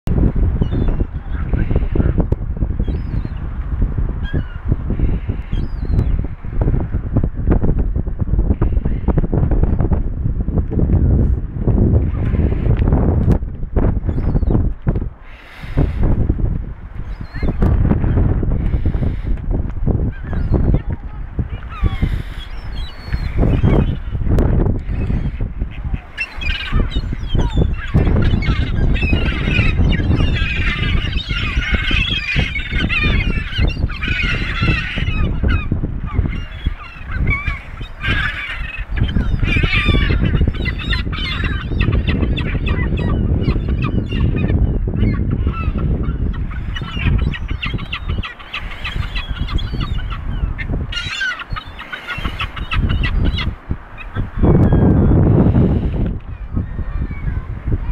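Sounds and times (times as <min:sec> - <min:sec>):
gulls and geese calling: 0:00.4 - 0:03.5, 0:04.2 - 0:07.1, 0:08.5 - 0:10.0, 0:12.0 - 0:13.0, 0:14.0 - 0:14.7, 0:15.3 - 0:16.3, 0:17.0 - 0:57.9.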